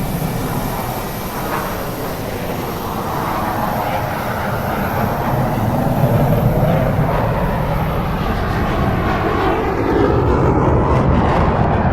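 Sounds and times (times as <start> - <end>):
jet engine roar: 0.0 - 11.9.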